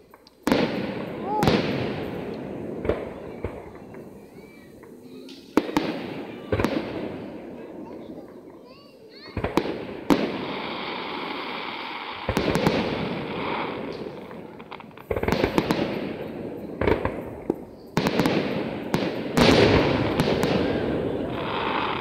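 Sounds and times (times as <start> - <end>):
fireworks crackling: 0.0 - 22.0
fireworks bangs with rumble: 0.4 - 22.0.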